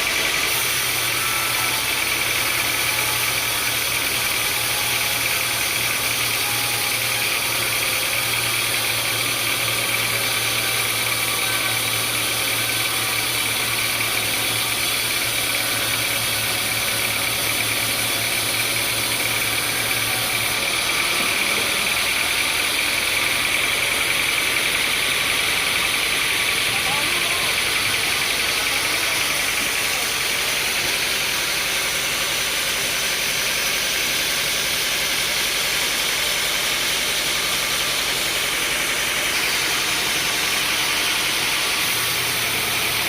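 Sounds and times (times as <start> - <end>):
high machine whine: 0.0 - 43.0
sawmill machinery hum: 0.0 - 43.0.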